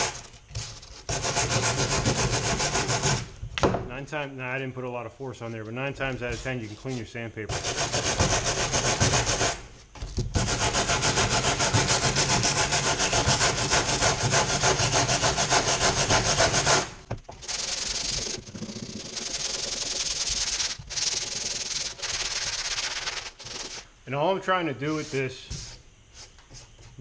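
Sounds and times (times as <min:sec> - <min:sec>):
wire brush scrubbing sandpaper: 0:00.0 - 0:03.2, 0:05.5 - 0:09.6, 0:10.4 - 0:23.9, 0:24.8 - 0:26.7
sandpaper rasping: 0:00.0 - 0:03.3, 0:06.4 - 0:09.6, 0:10.4 - 0:23.9, 0:24.8 - 0:26.7.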